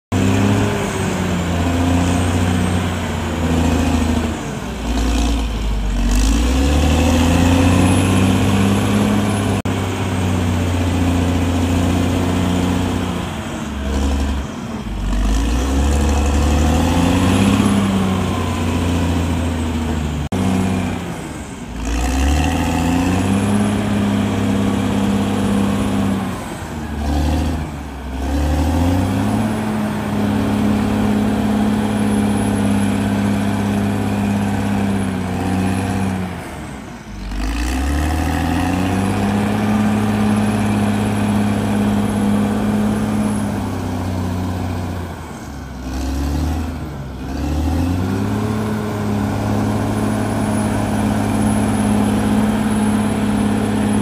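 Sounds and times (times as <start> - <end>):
bulldozer diesel engine under load: 0.1 - 54.0.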